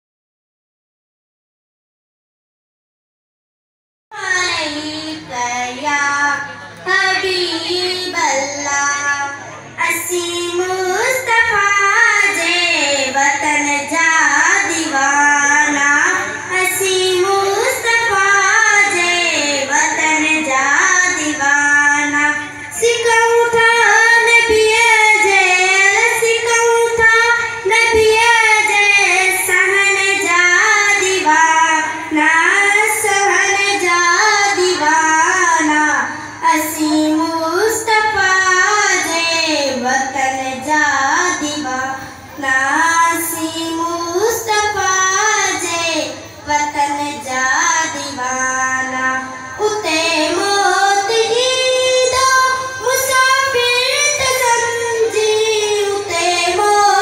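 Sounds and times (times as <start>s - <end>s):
girl singing into a microphone: 4.1s - 57.0s.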